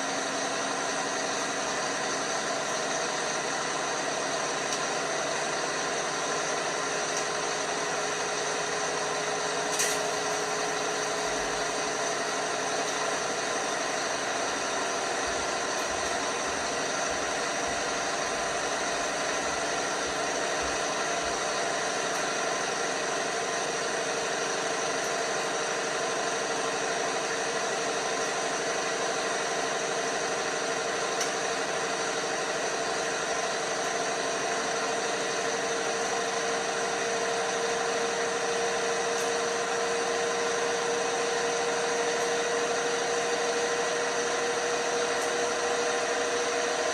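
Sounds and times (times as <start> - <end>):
washing machine motor whirring: 0.0 - 46.9.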